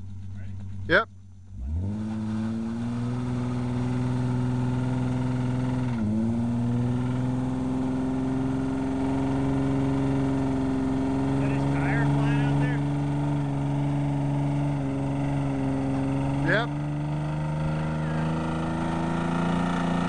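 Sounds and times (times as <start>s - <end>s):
car engine revving: 0.0s - 20.0s
tyres spinning in a burnout: 1.5s - 20.0s.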